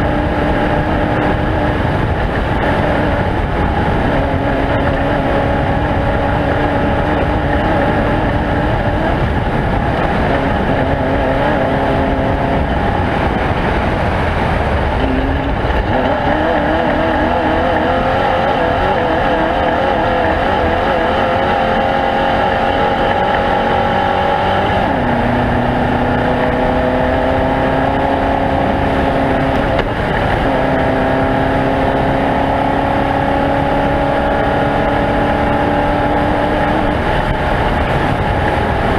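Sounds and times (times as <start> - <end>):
race vehicle engine revving: 0.0 - 38.9.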